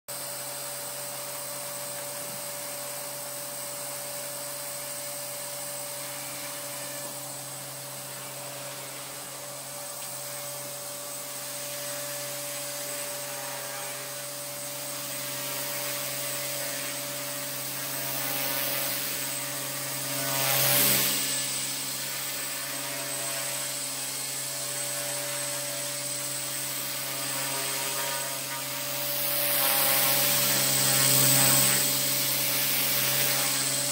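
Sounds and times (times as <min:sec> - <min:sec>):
rc helicopter motor whine: 0:00.1 - 0:33.9.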